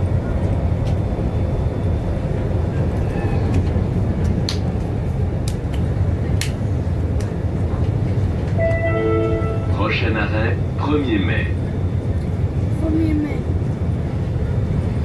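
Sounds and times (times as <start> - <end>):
tram cabin rumble: 0.0 - 15.0.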